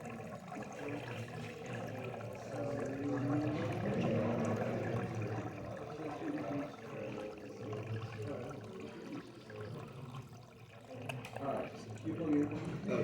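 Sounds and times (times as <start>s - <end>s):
water pouring into container: 0.0s - 13.0s.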